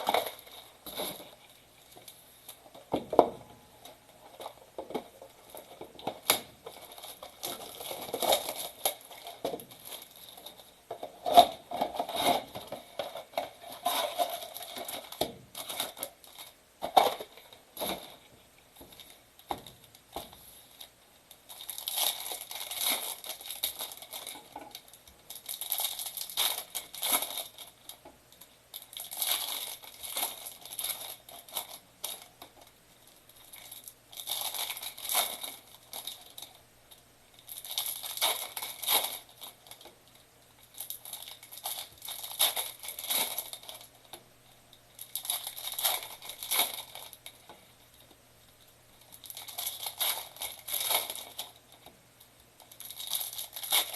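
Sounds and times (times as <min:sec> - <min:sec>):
plastic wrapping tearing and crinkling: 0:00.0 - 0:36.6, 0:37.3 - 0:44.2, 0:44.9 - 0:48.1, 0:48.9 - 0:52.0, 0:52.6 - 0:53.9.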